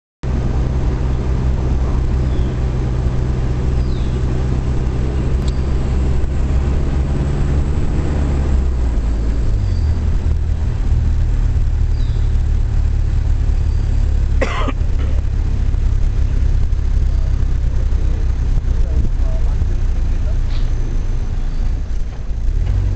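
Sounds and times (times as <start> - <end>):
car engine and road noise: 0.2 - 22.9.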